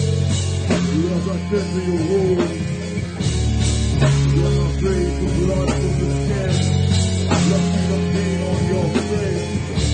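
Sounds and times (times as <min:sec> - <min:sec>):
guitar and bass riff: 0:00.0 - 0:09.9.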